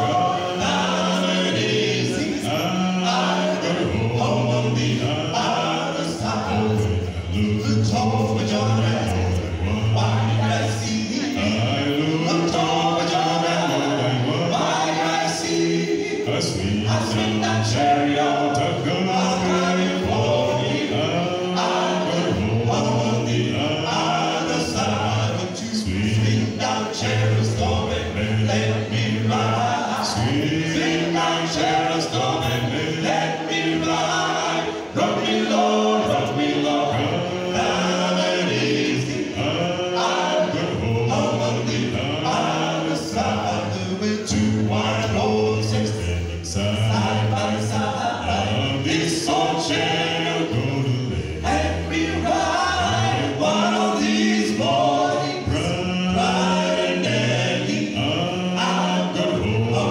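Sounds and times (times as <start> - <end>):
male vocal group singing in harmony: 0.0 - 59.9.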